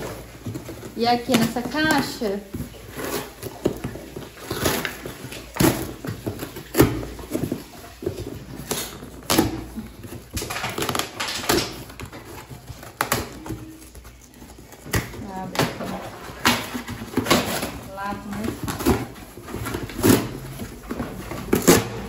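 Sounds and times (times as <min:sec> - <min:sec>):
cardboard crinkling: 0:00.0 - 0:22.0
cardboard box ripping: 0:02.6 - 0:22.0.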